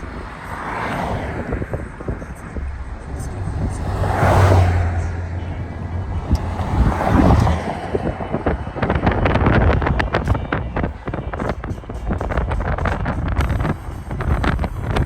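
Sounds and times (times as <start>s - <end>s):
vehicles passing: 0.0s - 15.0s
wind buffeting microphone: 0.0s - 15.0s.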